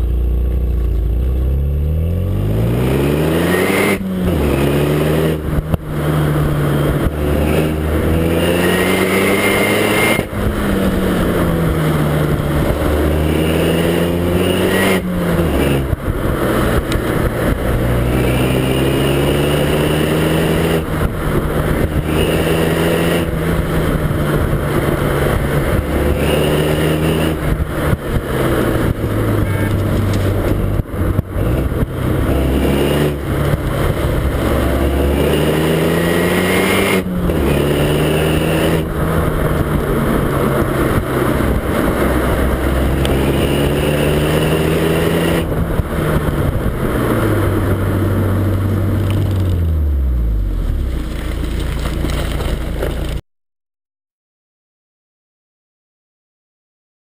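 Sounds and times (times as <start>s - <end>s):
car exhaust revving: 0.0s - 53.2s.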